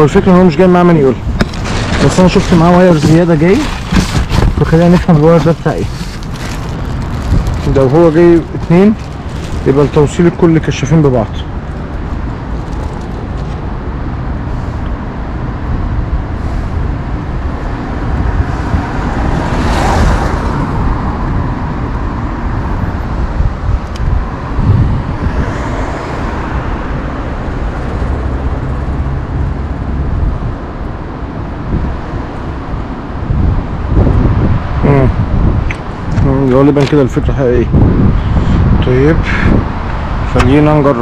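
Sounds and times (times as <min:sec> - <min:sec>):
car passing: 0:00.0 - 0:41.0
road traffic rumble: 0:00.0 - 0:41.0.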